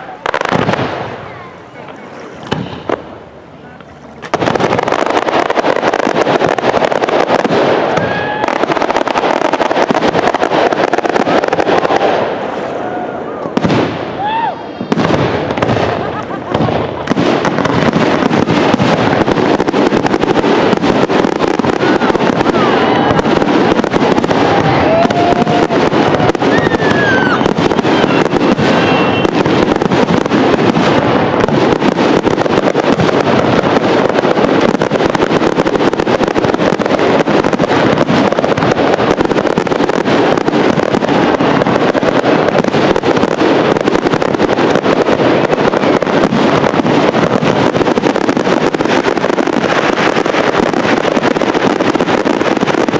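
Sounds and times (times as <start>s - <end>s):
fireworks bangs and crackles: 0.0s - 52.9s.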